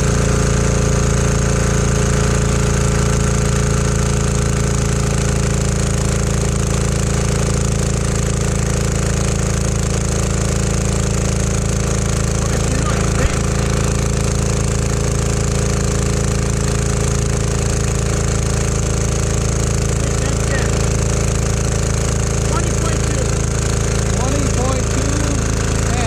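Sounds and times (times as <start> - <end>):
diesel generator running: 0.0 - 26.0.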